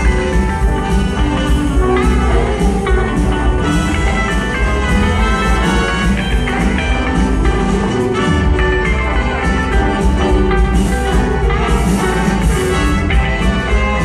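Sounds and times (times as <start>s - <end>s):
live rock and roll band: 0.0s - 14.0s.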